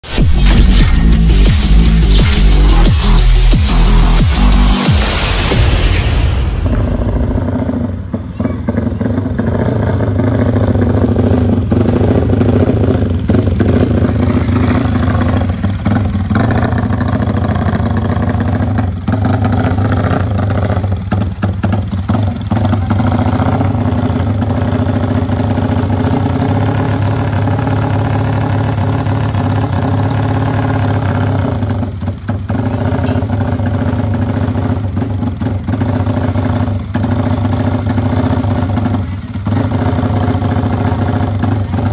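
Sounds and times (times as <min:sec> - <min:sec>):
motorcycle engine idling: 0:06.7 - 0:41.9.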